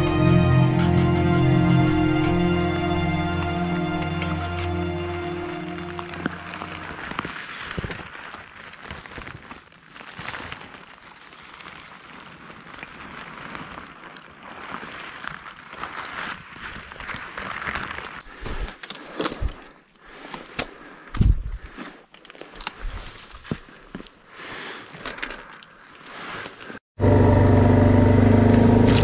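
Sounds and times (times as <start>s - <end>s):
brush and twigs rustling: 2.0s - 26.8s
twigs snapping: 3.4s - 26.8s.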